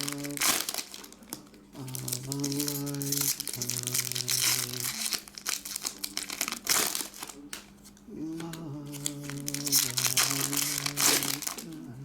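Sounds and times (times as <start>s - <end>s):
cards being handled: 0.0s - 11.8s
plastic wrappers crinkling: 0.0s - 11.9s
faint tune with low notes: 0.0s - 12.0s.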